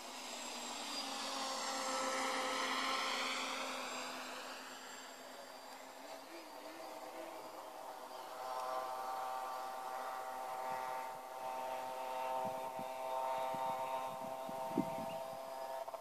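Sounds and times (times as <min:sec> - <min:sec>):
quadcopter motors whining buzz: 0:00.0 - 0:16.0.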